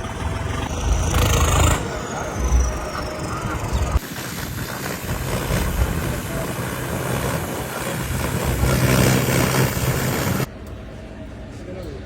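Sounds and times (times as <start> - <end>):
tractor diesel engine running: 0.0 - 10.5.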